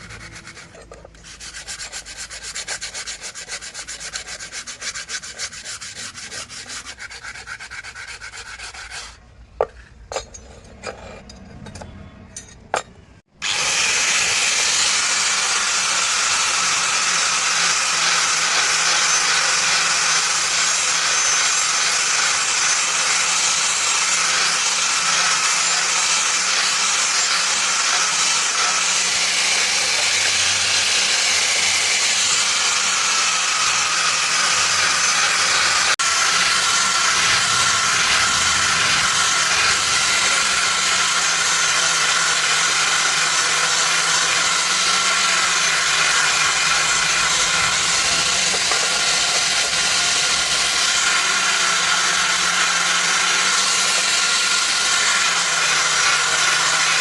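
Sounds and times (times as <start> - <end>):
sanding wood by hand: 0.0 - 9.2, 13.4 - 57.0.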